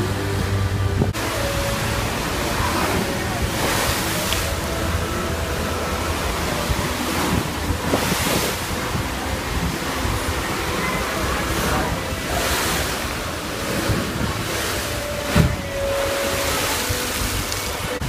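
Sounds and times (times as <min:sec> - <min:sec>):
water sloshing and splashing: 0:00.0 - 0:18.0
wind on microphone: 0:00.0 - 0:18.0.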